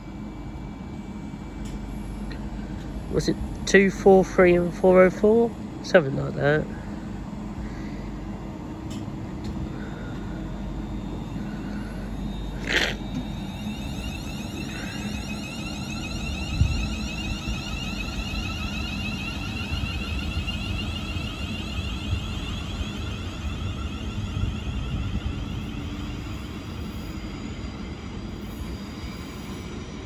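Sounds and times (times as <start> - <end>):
train traction motors whining: 0.0 - 30.0.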